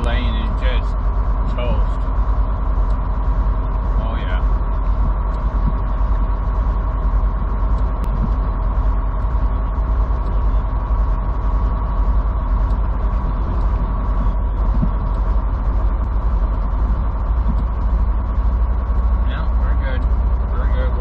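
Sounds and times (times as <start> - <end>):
constant engine whine: 0.0 - 21.0
truck engine drone: 0.0 - 21.0.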